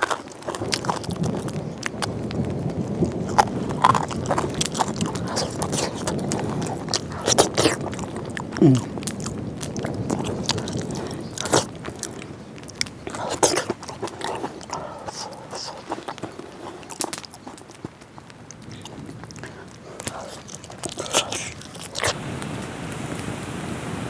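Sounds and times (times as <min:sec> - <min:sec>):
person crunching food: 0:00.0 - 0:22.2.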